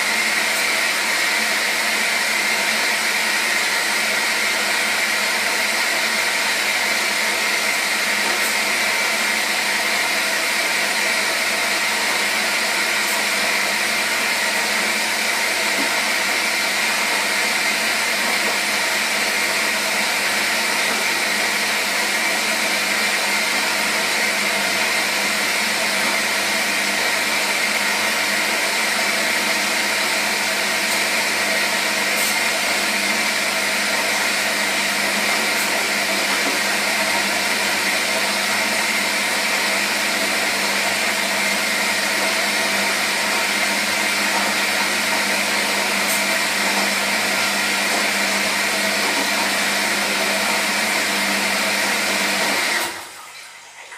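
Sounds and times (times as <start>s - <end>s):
washing machine whirring: 0.0s - 53.9s.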